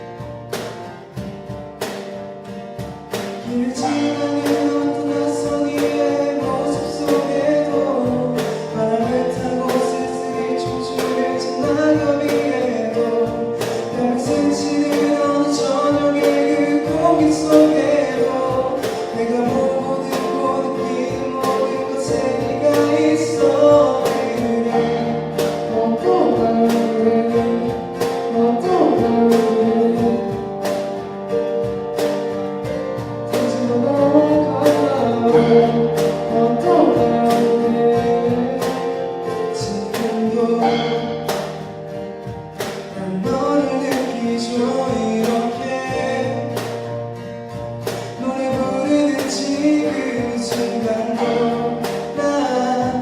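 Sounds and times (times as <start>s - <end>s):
acoustic guitar: 0.0s - 53.0s
keyboard: 0.0s - 53.0s
piano: 0.0s - 53.0s
man singing pop-rock ballad: 3.2s - 31.0s, 32.4s - 41.3s, 42.8s - 53.0s.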